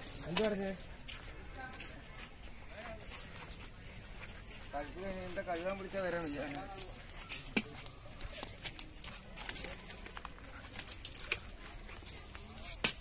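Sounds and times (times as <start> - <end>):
metal chains clinking: 0.0 - 12.8.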